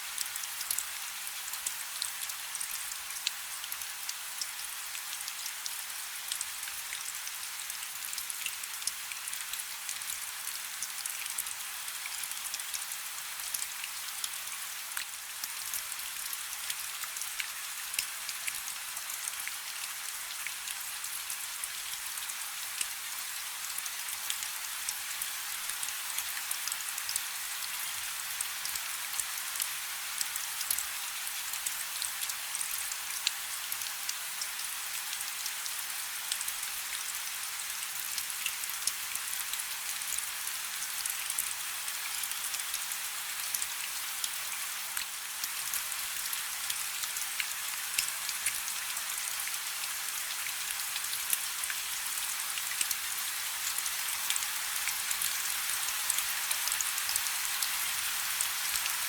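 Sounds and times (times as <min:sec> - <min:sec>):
light rain: 0:00.0 - 0:59.0.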